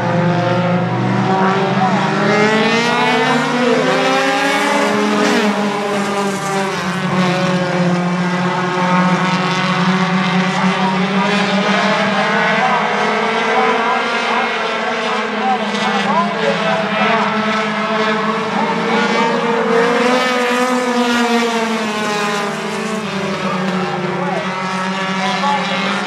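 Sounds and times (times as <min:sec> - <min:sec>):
race car engines passing: 0:00.0 - 0:26.0.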